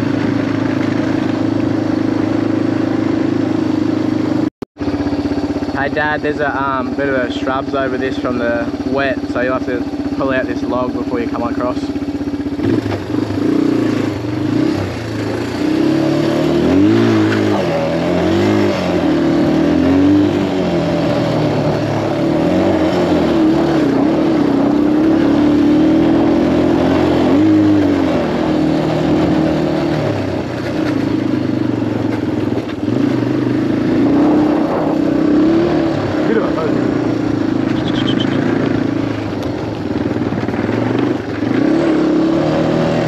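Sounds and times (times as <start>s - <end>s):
motorbike engine revving: 0.0s - 43.0s.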